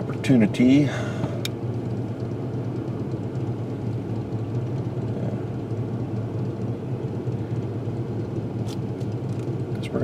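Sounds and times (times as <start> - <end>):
car engine hum: 0.0 - 10.0
road noise inside car: 0.0 - 10.0.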